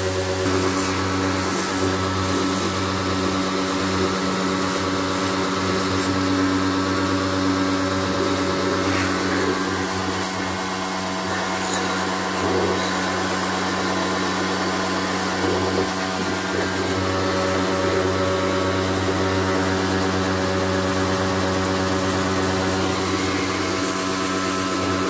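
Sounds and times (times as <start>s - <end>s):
pressure washer motor humming: 0.0s - 25.0s
water jet hissing: 0.0s - 25.0s.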